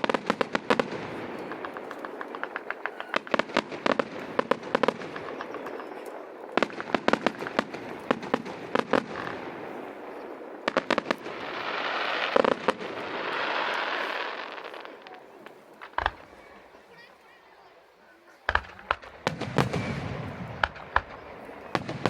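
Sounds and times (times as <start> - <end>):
fireworks bangs and pops: 0.0 - 17.1, 18.3 - 22.0
hissing crackle of fireworks: 0.0 - 22.0.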